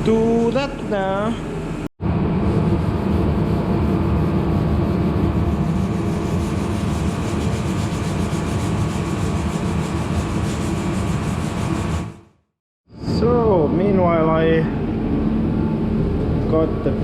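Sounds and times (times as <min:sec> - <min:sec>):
machine running with low rumble: 0:00.0 - 0:12.3, 0:13.0 - 0:17.0.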